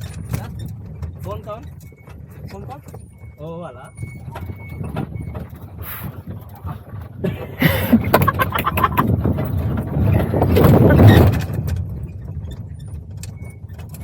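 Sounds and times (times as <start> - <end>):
motor vehicle rumbling and knocking: 0.0 - 14.0.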